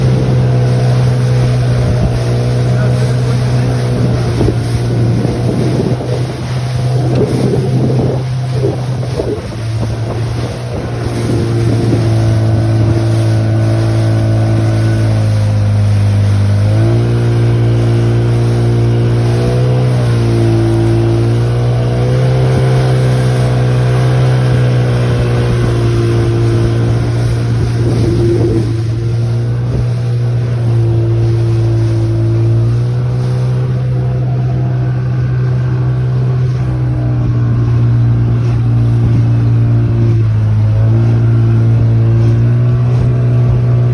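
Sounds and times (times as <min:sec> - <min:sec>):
outboard motor running: 0:00.0 - 0:43.9
water rushing: 0:00.0 - 0:43.9
wind: 0:00.0 - 0:43.9.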